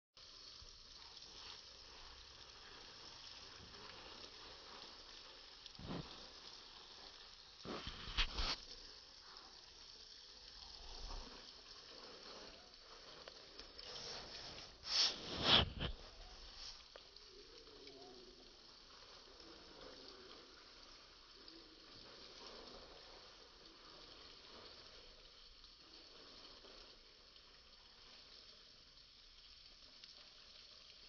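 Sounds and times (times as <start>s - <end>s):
steady outdoor hiss: 0.2s - 31.0s.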